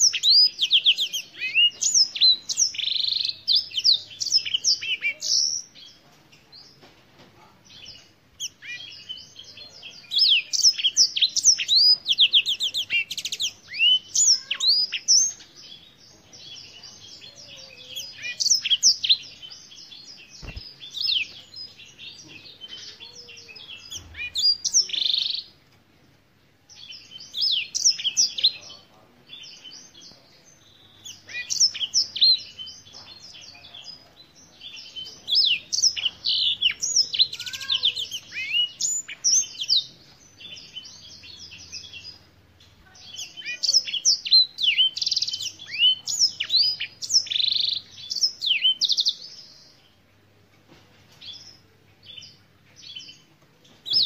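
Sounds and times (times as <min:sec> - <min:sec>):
canary singing: 0:00.0 - 0:06.0, 0:07.8 - 0:25.6, 0:26.7 - 0:49.6.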